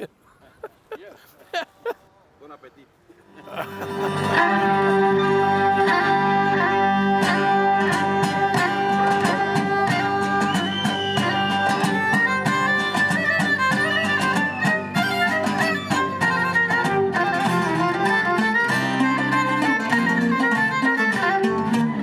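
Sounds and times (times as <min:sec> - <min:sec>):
held string notes: 0:03.1 - 0:22.0
bowed fiddle melody: 0:03.2 - 0:22.0
plucked strings: 0:03.2 - 0:22.0.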